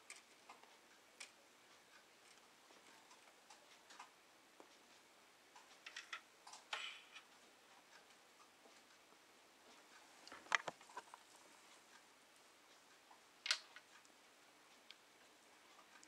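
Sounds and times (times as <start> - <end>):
faint ticks and clicks: 0.0 - 16.0.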